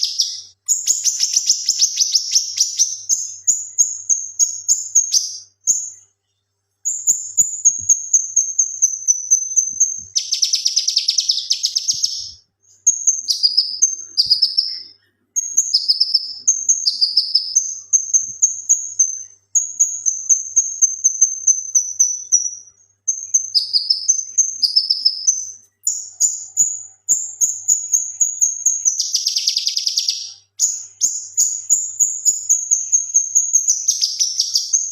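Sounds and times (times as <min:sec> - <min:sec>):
bird singing: 0:00.0 - 0:34.9.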